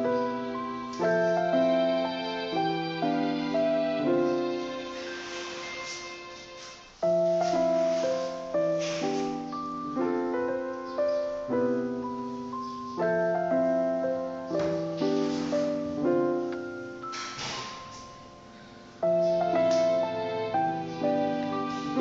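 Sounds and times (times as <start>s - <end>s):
piano playing slow chords: 0.0s - 22.0s.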